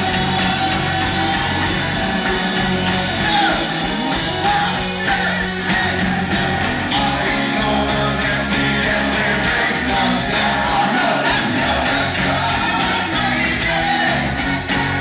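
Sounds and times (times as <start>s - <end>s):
live rock band playing: 0.0s - 15.0s
voices singing: 0.0s - 15.0s.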